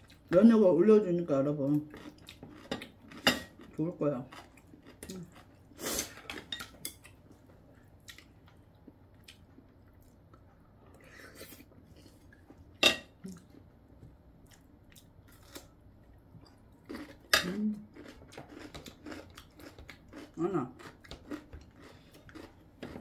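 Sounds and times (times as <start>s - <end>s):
chewing and crunching food: 1.6s - 23.0s.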